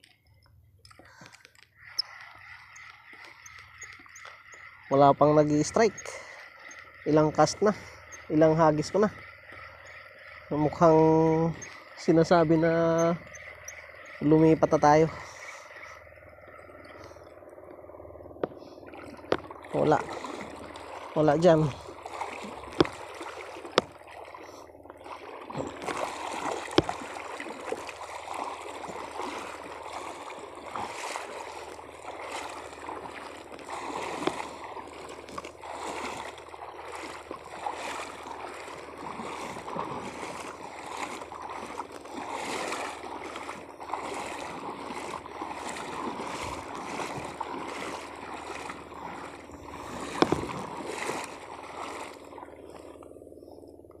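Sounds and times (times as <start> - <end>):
water sloshing around wading feet: 0.8 - 54.0.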